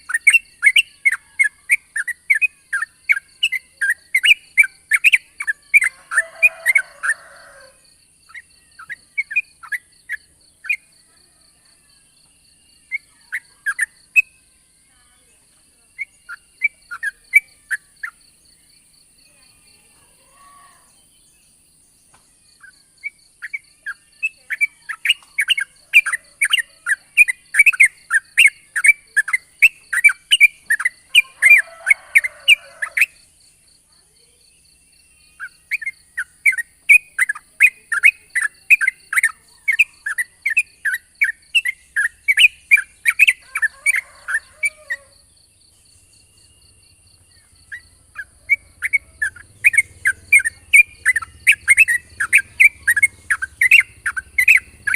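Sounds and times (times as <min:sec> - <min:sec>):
bird rapid chirping song: 0:00.0 - 0:11.1, 0:11.9 - 0:14.4, 0:15.0 - 0:20.0, 0:21.0 - 0:54.9.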